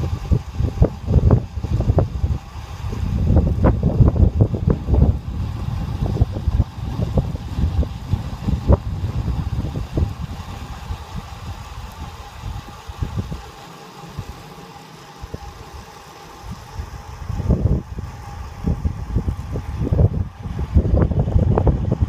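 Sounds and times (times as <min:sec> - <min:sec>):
wind buffeting microphone: 0:00.0 - 0:14.6, 0:15.2 - 0:22.0
faint steady hum: 0:00.0 - 0:22.0.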